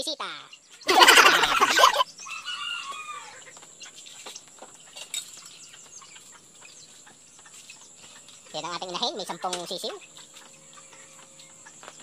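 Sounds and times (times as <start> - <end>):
hen and chicks calling: 0.3 - 12.0.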